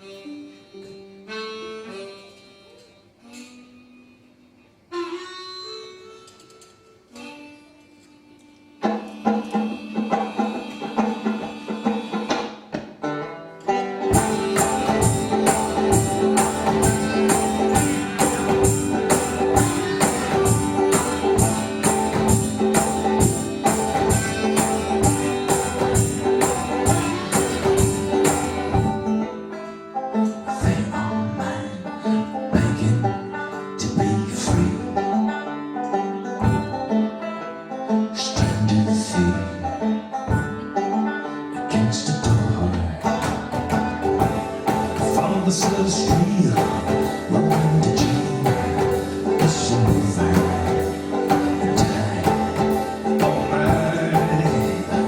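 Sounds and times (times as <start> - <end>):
live band playing: 0.0 - 55.0
plucked strings: 6.3 - 55.0.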